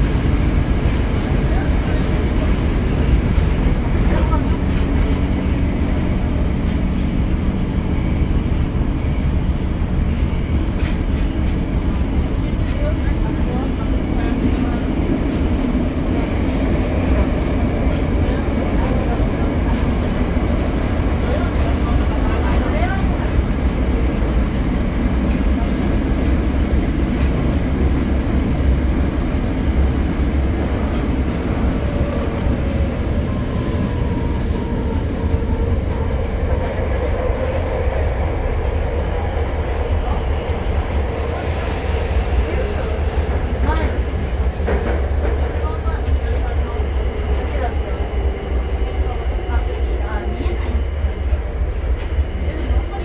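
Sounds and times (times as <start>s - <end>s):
wheels rumbling on rail: 0.0s - 53.0s.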